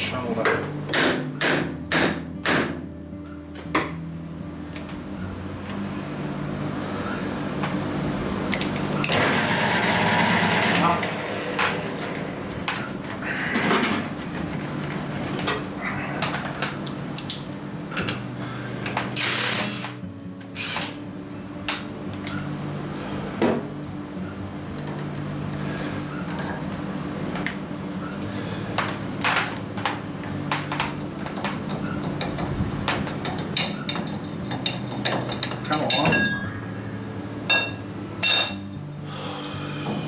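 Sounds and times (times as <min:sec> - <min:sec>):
workshop machinery hum: 0:00.0 - 0:40.0.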